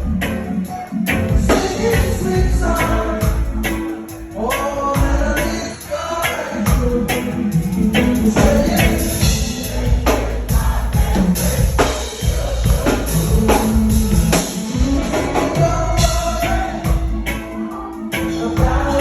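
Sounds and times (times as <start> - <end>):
person singing: 0.0 - 19.0
reggae band playing: 0.0 - 19.0.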